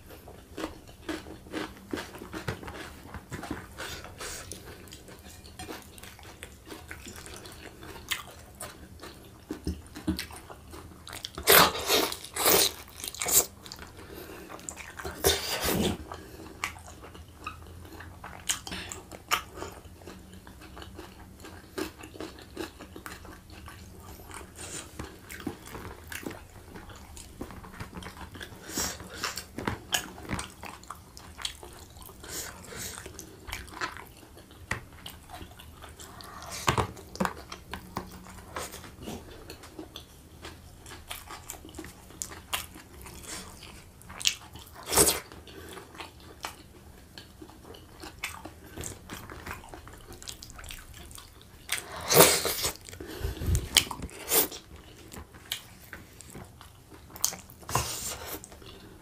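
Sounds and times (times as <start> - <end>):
man chewing and biting food: 0.0 - 59.0.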